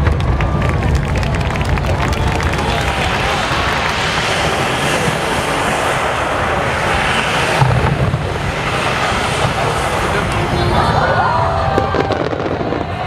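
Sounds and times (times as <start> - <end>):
fireworks barrage: 0.0 - 13.0
heavy low firework boom: 0.0 - 13.0.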